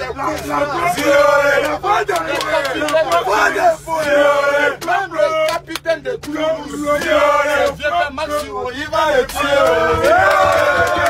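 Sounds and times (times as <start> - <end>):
men chanting together: 0.0 - 11.0.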